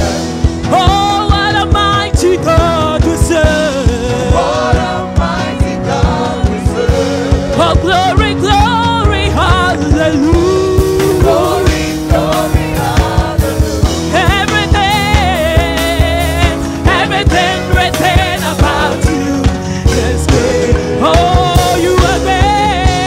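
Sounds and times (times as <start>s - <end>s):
band with steady beat: 0.0s - 23.0s
person singing with vibrato: 0.0s - 23.0s.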